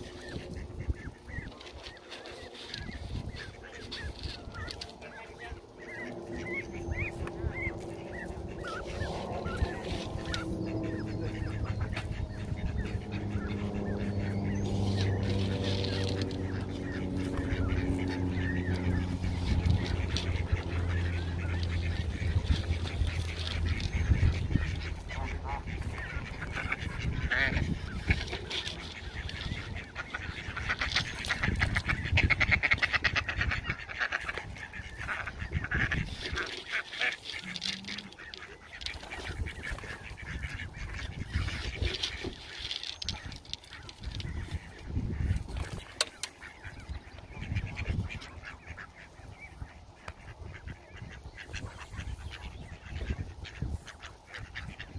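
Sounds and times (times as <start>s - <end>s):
ducks quacking: 0.0s - 54.9s
geese honking: 0.0s - 54.9s
low steady hum: 0.0s - 54.9s.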